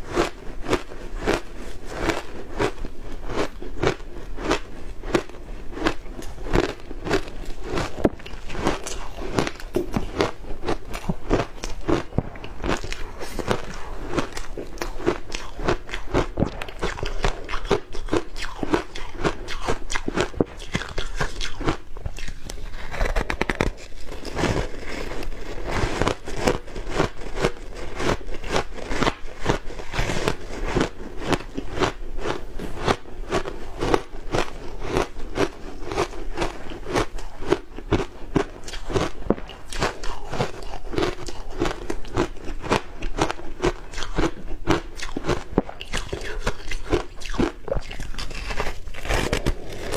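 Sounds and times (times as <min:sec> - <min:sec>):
teeth crunching ice: 0:00.0 - 0:49.9.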